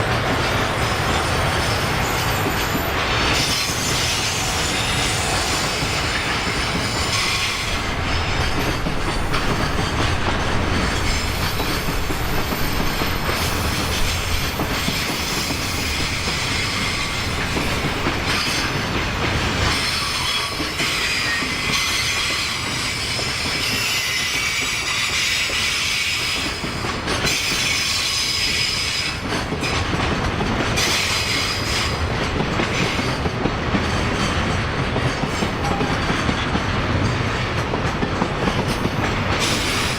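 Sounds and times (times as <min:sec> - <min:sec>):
clickety-clack over rail joints: 0:00.0 - 0:39.9
freight train wheels rumbling on rail: 0:00.0 - 0:39.9.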